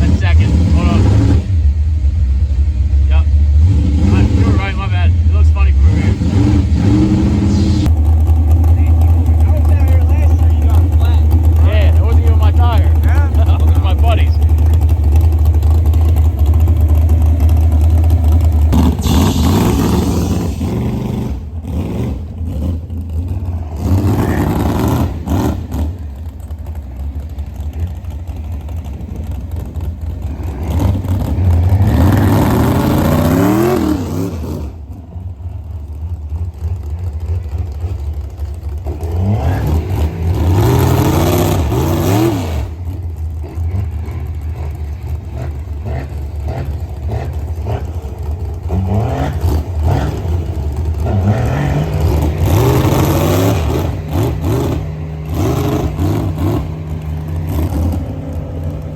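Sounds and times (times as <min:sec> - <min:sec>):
truck engine revving: 0:00.0 - 0:58.9.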